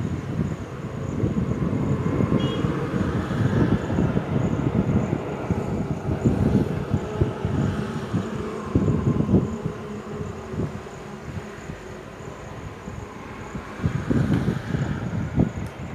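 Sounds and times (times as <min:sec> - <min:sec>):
rough low traffic rumble: 0:00.0 - 0:15.9
vehicle passing: 0:01.0 - 0:15.9.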